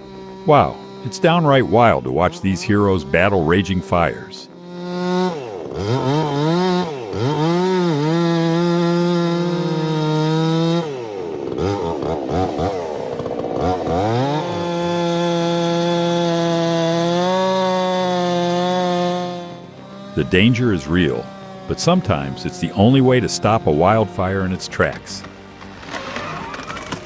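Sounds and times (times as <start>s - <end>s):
chainsaw revving and cutting: 0.0s - 27.0s.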